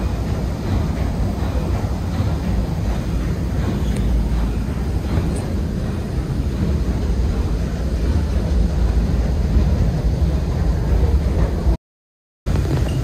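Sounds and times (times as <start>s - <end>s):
steam engine low rumble: 0.0s - 11.8s, 12.5s - 13.0s.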